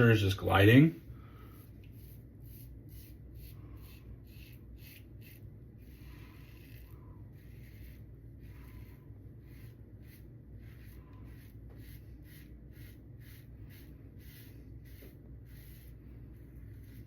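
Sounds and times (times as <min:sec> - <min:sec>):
low steady hum: 0:00.0 - 0:17.0
razor scraping stubble: 0:01.4 - 0:17.0.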